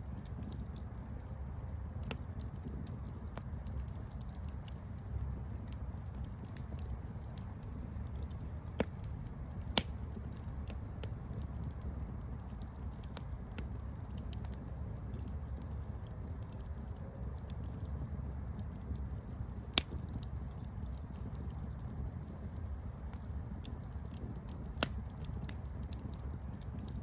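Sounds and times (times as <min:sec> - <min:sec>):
campfire crackling: 0:00.0 - 0:27.0
low rumble of flames: 0:00.0 - 0:27.0
sharp pops of fire: 0:00.1 - 0:16.8, 0:17.4 - 0:27.0.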